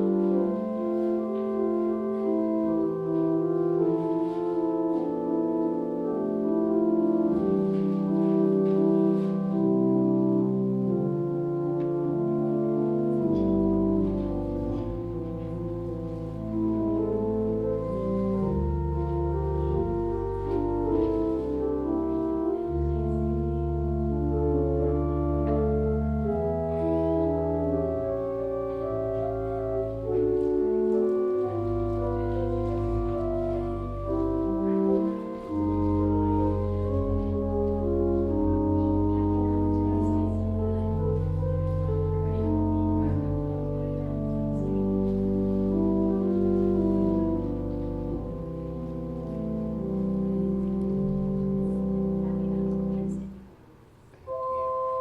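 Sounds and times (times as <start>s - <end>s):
church organ playing slow chords: 0.0s - 55.0s.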